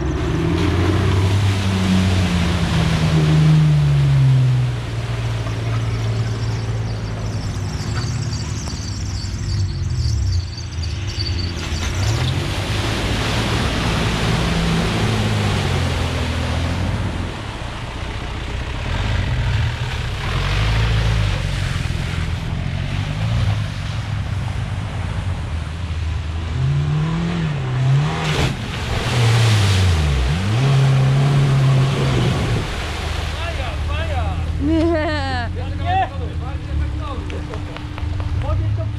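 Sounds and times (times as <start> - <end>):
off-road engines revving: 0.0 - 38.9
wheels churning mud and water: 0.0 - 38.9.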